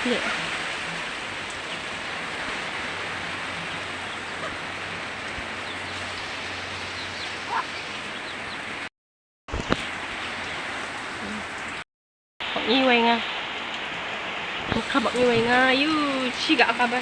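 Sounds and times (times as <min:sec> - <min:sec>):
heavy rain falling: 0:00.0 - 0:08.9, 0:09.6 - 0:11.8, 0:12.4 - 0:17.0.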